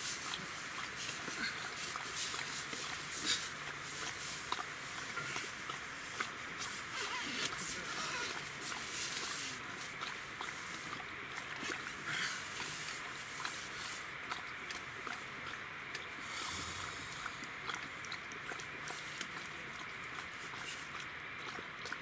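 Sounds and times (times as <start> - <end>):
rain pattering on tent fabric: 0.0 - 22.0.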